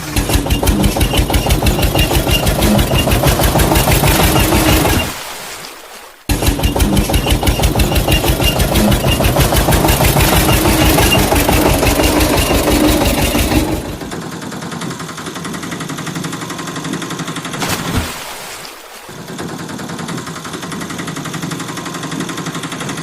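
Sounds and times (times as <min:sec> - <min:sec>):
engine chugging: 0:00.0 - 0:05.2, 0:06.3 - 0:17.6, 0:19.1 - 0:23.0.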